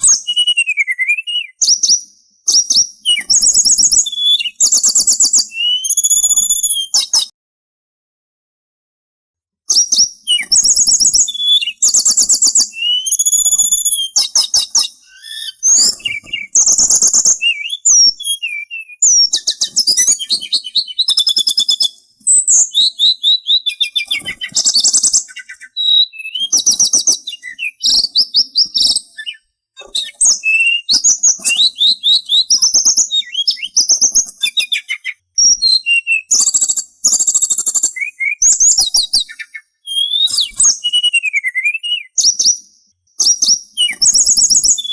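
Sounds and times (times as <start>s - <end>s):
songbird trilling and whistling: 0.0s - 7.3s, 9.7s - 44.9s.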